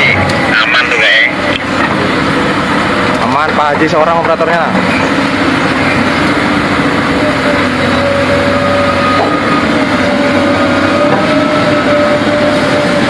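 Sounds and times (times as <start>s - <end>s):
excavator diesel engine running: 0.0s - 13.0s
steady whine: 0.0s - 13.0s.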